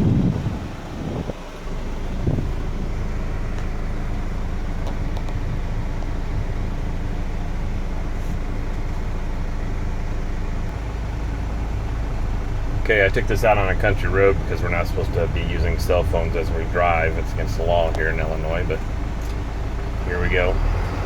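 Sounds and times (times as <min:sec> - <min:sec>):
blower fan running: 0:00.0 - 0:21.0
truck engine idling: 0:00.0 - 0:21.0.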